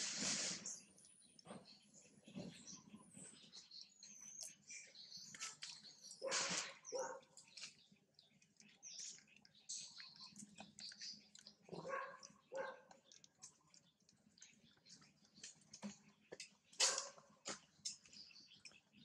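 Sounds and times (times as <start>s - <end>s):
animal chirps and squeaks: 0.3s - 18.9s.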